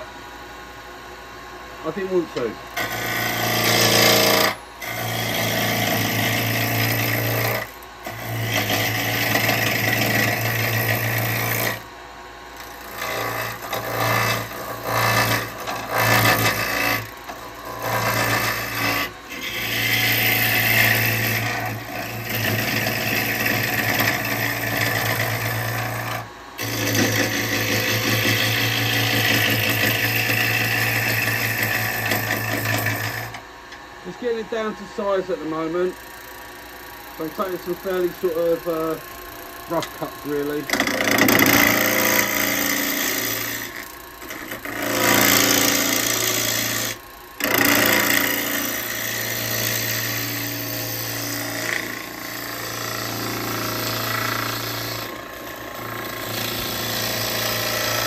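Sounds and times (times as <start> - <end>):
wood lathe running: 1.8 - 11.9, 12.5 - 33.4, 34.0 - 58.0
gouge cutting spinning wood: 1.9 - 11.9, 12.6 - 33.4, 37.1 - 58.0.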